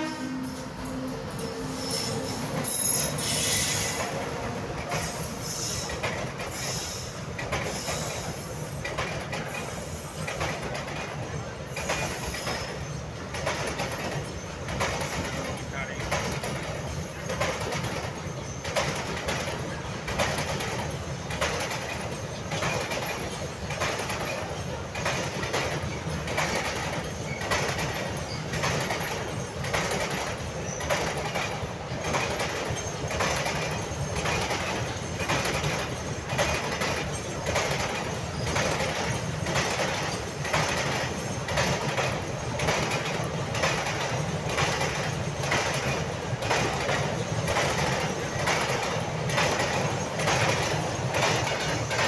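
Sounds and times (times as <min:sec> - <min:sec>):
freight train rumbling: 0:00.0 - 0:52.0
wheels clacking over rail joints: 0:00.0 - 0:52.0.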